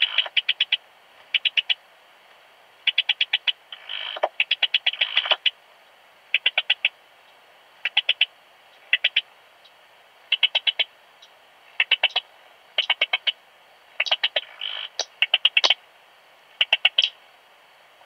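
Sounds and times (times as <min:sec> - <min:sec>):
cricket chirping: 0:00.0 - 0:02.0, 0:02.8 - 0:05.6, 0:06.2 - 0:17.8.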